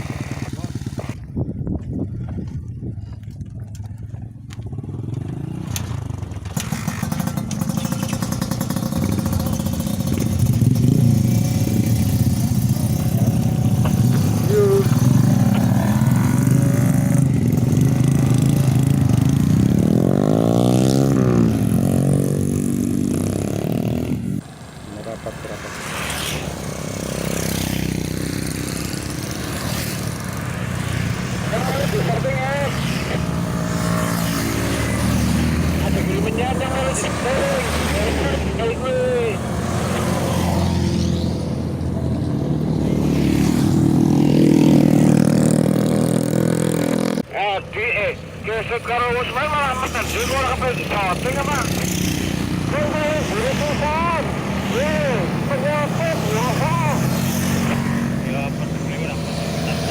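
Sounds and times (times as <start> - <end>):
motorcycle engine revving: 0.0 - 2.4, 3.8 - 47.4, 48.3 - 59.9.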